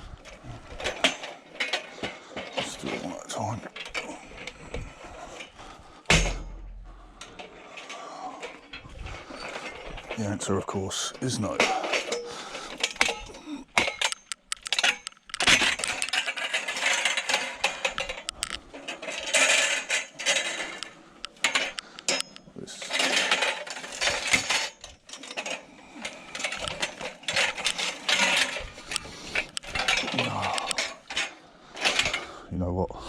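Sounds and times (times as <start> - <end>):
scrap metal clanking and scraping: 0.2 - 32.4.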